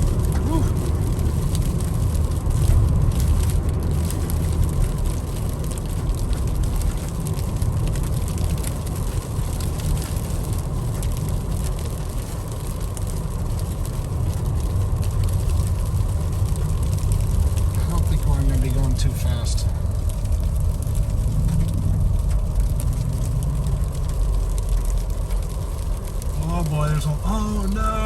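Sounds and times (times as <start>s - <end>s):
car engine: 0.0s - 28.0s
tyre and road noise: 0.0s - 28.0s.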